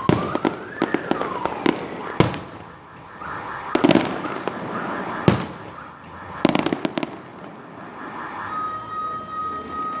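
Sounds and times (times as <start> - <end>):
fireworks bursting: 0.0 - 8.2
car alarm tone: 0.0 - 10.0
outdoor background noise: 0.0 - 10.0.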